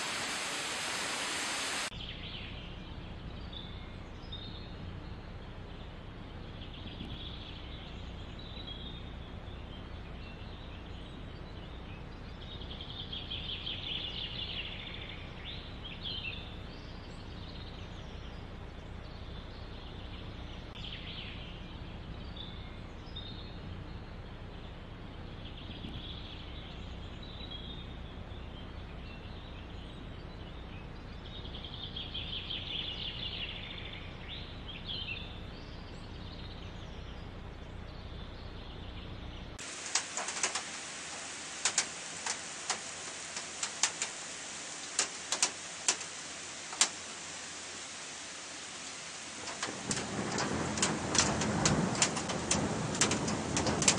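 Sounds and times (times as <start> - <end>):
low background noise: 0.0 - 53.9
songbirds singing: 0.0 - 53.9.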